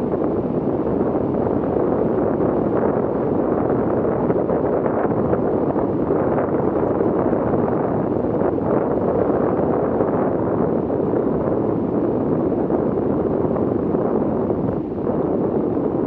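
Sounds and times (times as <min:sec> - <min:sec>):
wind buffeting camera: 0:00.0 - 0:16.0.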